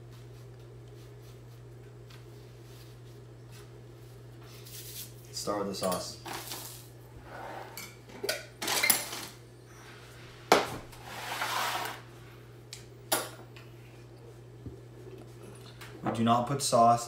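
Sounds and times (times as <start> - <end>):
steady low hum: 0.0 - 8.6, 11.9 - 17.0.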